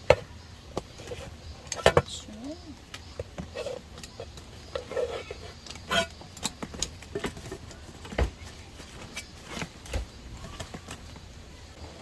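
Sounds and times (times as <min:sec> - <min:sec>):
objects being handled: 0:00.0 - 0:11.3.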